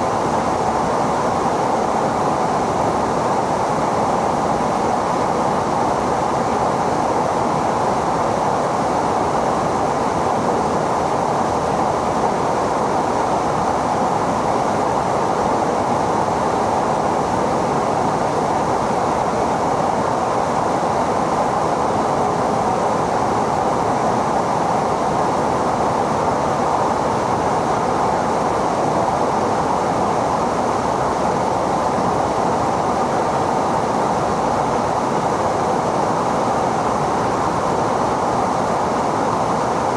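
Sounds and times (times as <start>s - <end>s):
jet engine and airflow noise: 0.0s - 39.9s.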